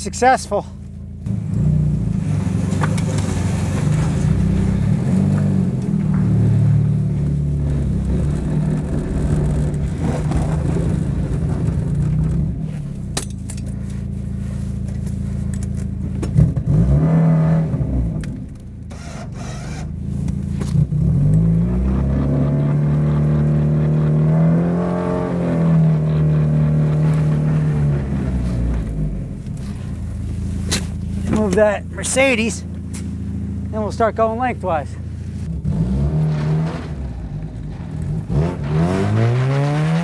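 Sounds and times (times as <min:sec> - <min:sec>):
car engine revving: 0:00.9 - 0:40.0.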